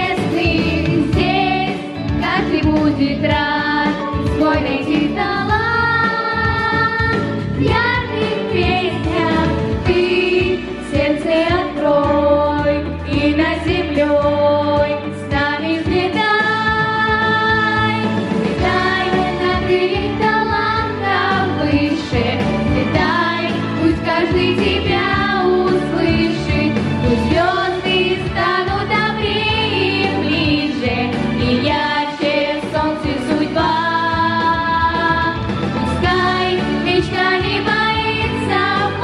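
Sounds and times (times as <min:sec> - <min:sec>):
girls' vocal group singing: 0:00.0 - 0:35.4, 0:36.0 - 0:39.0
instrumental accompaniment: 0:00.0 - 0:39.0.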